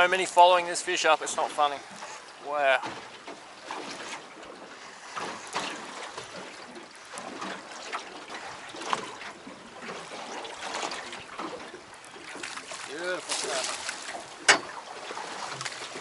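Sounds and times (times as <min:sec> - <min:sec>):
water trickling and lapping: 0:00.0 - 0:16.0
small splashes and crackles: 0:01.2 - 0:16.0.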